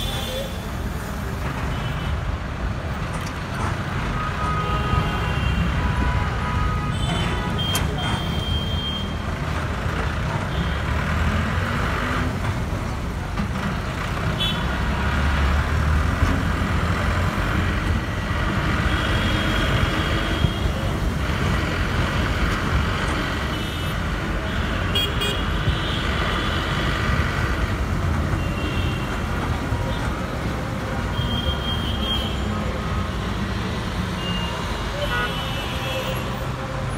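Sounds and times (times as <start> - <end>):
busy road traffic: 0.0 - 36.9.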